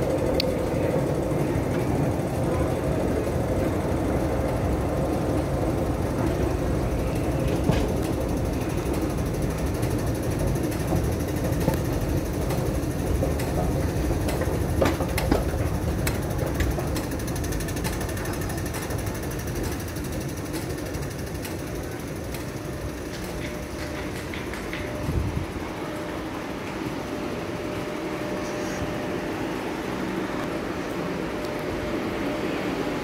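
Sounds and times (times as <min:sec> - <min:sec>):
ventilation and machinery hum: 0:00.0 - 0:33.0.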